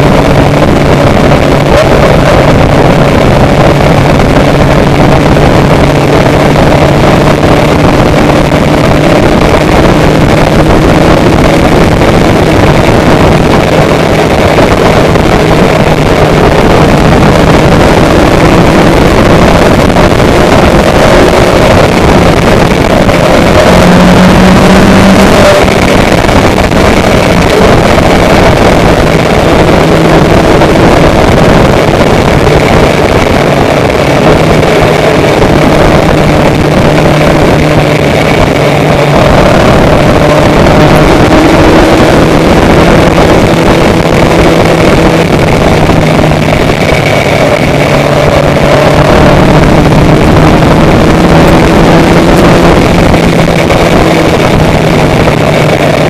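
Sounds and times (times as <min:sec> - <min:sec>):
vehicle engine drone: 0:00.0 - 0:56.0
wind rush: 0:00.0 - 0:56.0.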